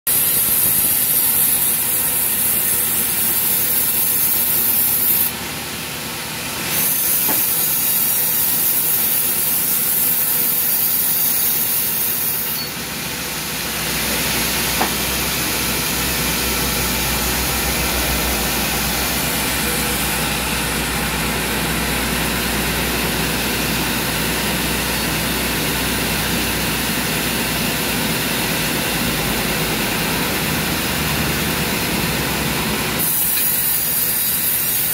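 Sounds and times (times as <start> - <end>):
band saw cutting log: 0.1 - 5.4, 6.5 - 34.9
saw running unloaded: 0.1 - 5.4, 6.6 - 29.0, 31.7 - 34.9.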